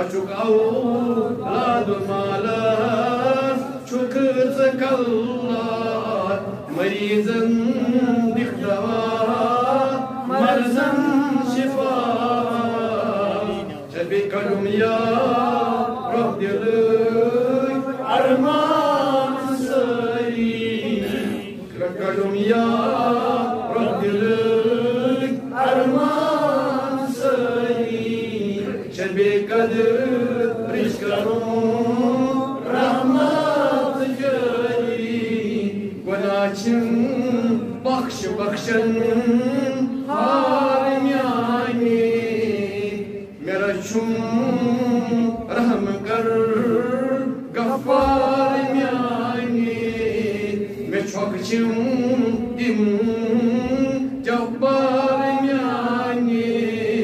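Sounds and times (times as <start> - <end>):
man chanting melodically: 0.0 - 57.0.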